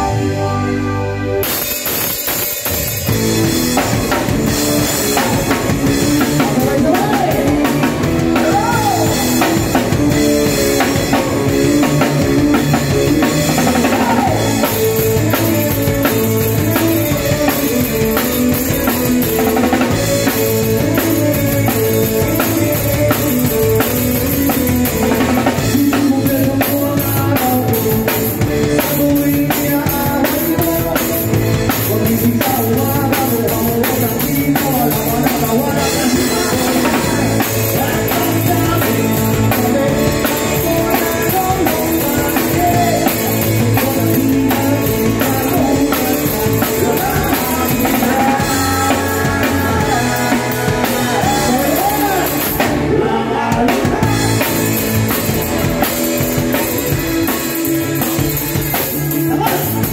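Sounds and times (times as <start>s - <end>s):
bass and band instruments: 0.0s - 59.9s
drum kit beat: 1.4s - 59.9s.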